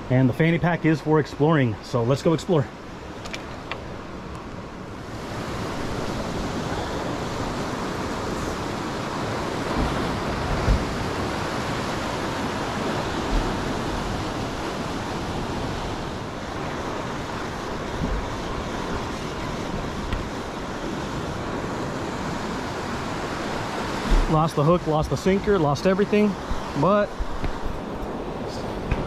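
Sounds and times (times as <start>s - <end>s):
surf breaking on rocks: 5.0s - 29.0s.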